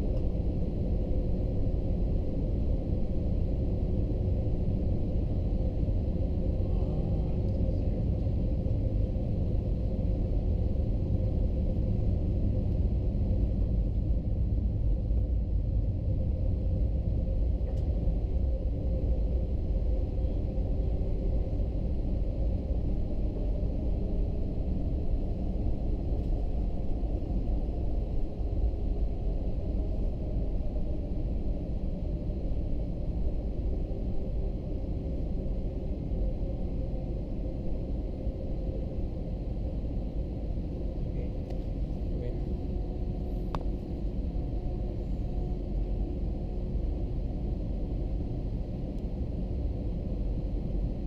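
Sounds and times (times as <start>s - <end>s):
airplane engines and airflow rumble: 0.0s - 51.0s
faint steady hum: 0.0s - 51.0s.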